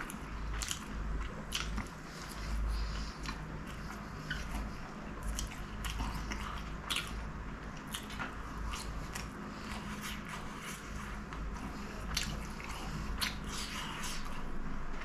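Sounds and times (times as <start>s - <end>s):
chewing with mouth clicks: 0.0s - 15.0s.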